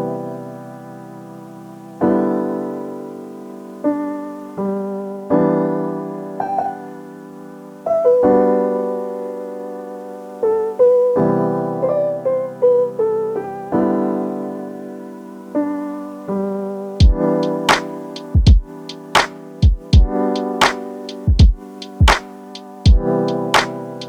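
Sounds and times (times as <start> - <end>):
slow solo piano: 0.0 - 24.0.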